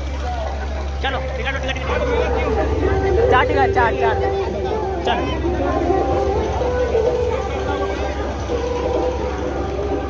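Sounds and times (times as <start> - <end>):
voices talking: 0.0 - 10.0.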